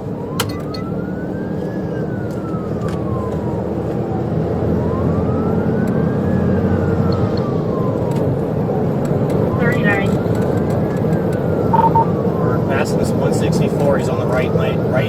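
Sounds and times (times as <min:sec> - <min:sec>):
car driving road noise: 0:00.0 - 0:15.0
police siren wailing: 0:00.0 - 0:15.0.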